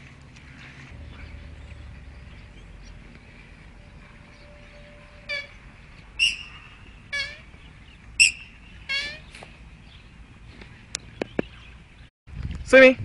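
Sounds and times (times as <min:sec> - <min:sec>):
bird calls: 0:00.4 - 0:12.1.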